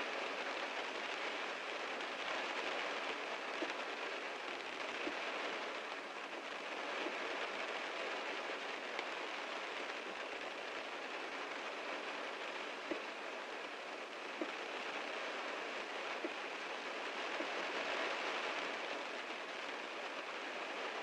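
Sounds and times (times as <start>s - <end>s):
heavy rain on a car: 0.0s - 21.0s.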